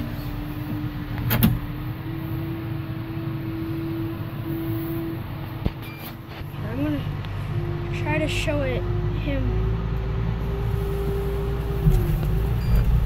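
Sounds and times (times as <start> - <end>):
tractor engine rumble: 0.0 - 13.0.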